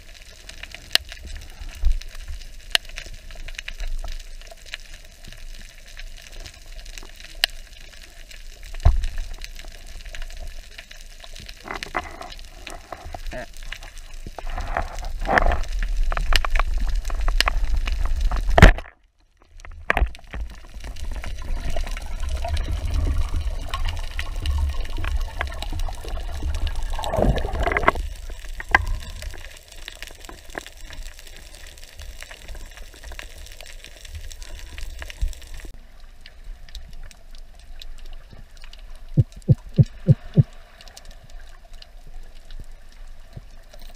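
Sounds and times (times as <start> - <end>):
underwater rumble of moving water: 0.0 - 43.9
scattered underwater clicks: 0.1 - 43.9.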